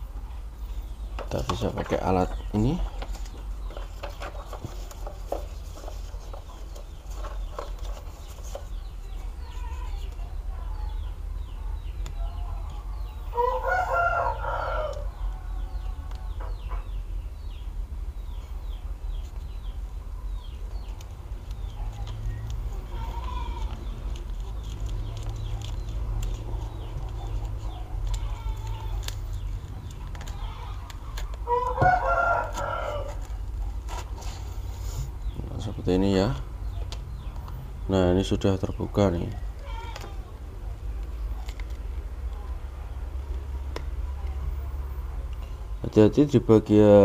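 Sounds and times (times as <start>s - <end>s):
birds calling: 0.0s - 47.0s.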